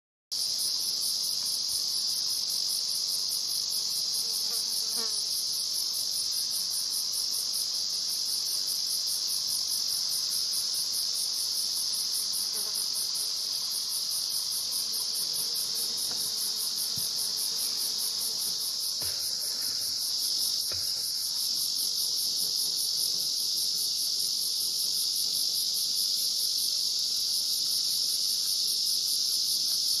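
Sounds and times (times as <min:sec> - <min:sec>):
insects high-pitched hiss: 0:00.4 - 0:30.0
pulsing high insect song: 0:00.4 - 0:30.0.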